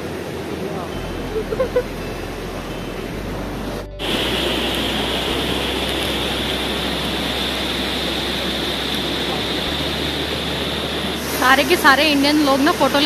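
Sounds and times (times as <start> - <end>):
waterfall and stream rushing: 0.0 - 13.0.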